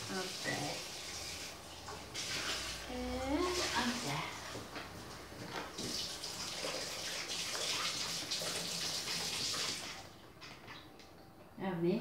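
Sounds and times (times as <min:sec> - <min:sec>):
water running: 0:00.0 - 0:11.9.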